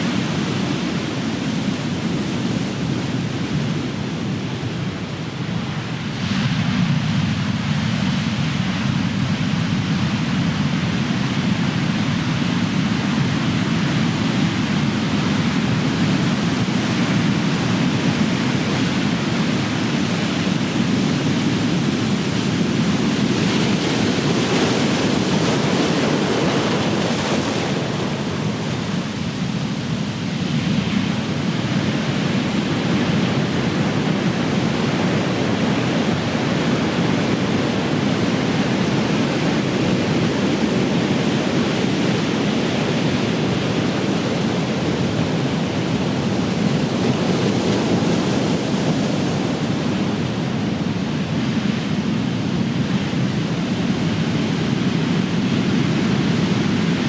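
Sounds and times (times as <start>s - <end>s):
ocean waves crashing on shore: 0.0s - 57.0s.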